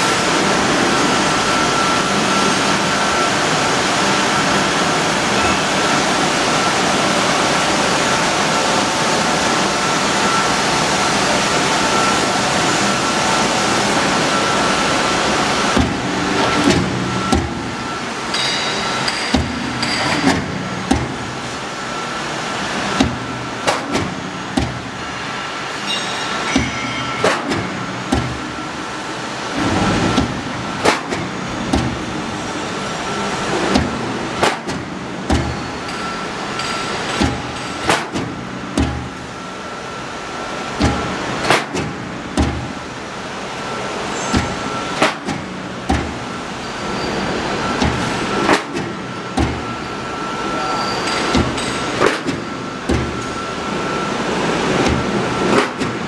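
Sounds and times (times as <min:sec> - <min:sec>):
machine mechanical hum: 0:00.0 - 0:56.0.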